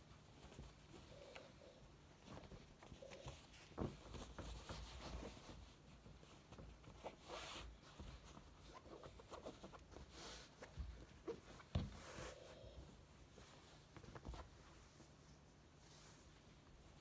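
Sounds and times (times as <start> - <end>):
fabric rustling and brushing: 0.0 - 17.0.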